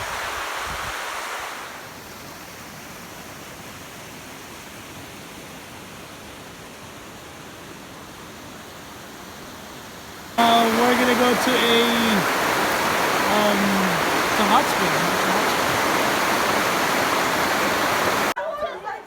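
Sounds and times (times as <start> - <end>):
running water rushing: 0.0 - 18.4.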